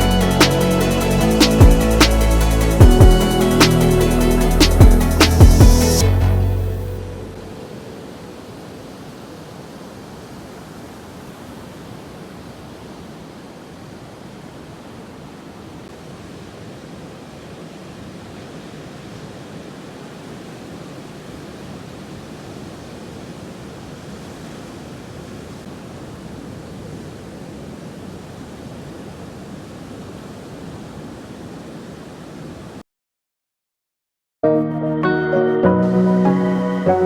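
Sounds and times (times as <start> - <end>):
ocean waves breaking: 0.0 - 32.8.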